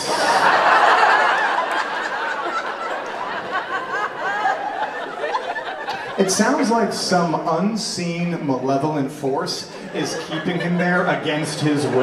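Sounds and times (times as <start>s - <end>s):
audience laughing: 0.0s - 7.5s, 9.5s - 12.0s.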